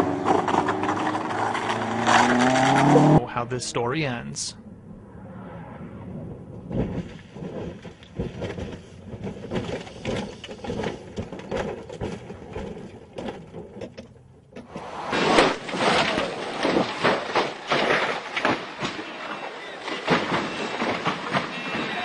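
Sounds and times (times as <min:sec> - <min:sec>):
car crashing and rolling over: 0:00.0 - 0:03.2, 0:06.5 - 0:22.0.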